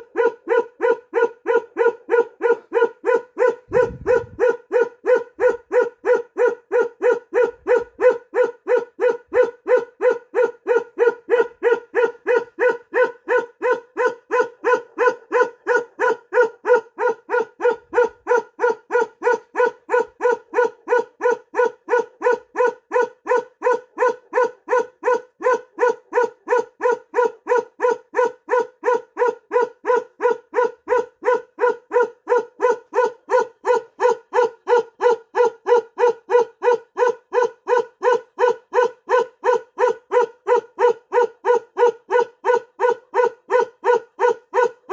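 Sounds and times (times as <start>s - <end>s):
large dog barking: 0.0s - 44.9s.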